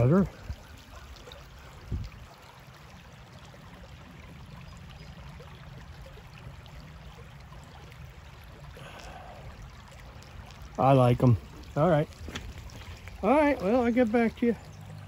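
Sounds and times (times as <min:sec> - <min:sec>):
creek water flowing over rocks: 0:00.0 - 0:15.0.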